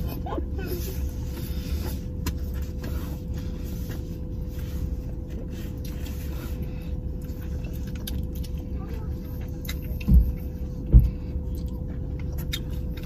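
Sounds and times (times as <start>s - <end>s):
car idling inside cabin: 0.0s - 13.0s.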